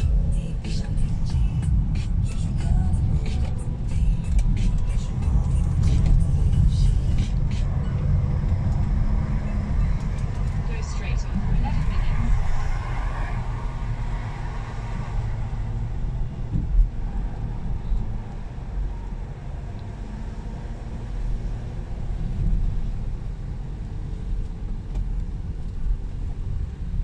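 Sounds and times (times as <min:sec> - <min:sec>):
engine and road rumble: 0:00.0 - 0:27.0.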